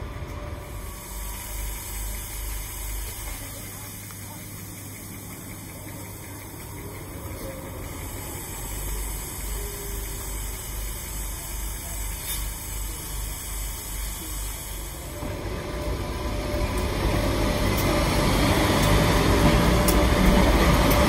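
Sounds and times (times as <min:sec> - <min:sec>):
electric locomotive hum: 0:00.0 - 0:21.0.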